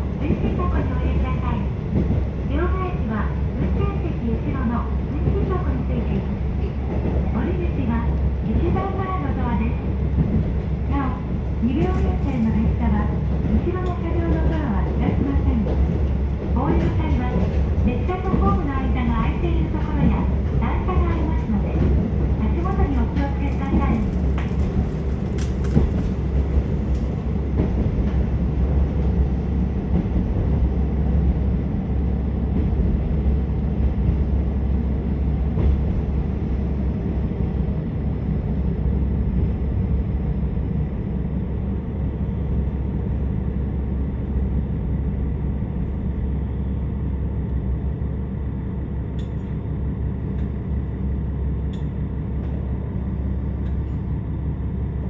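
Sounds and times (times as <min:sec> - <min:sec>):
train engine and wheels rumbling: 0:00.0 - 0:55.0.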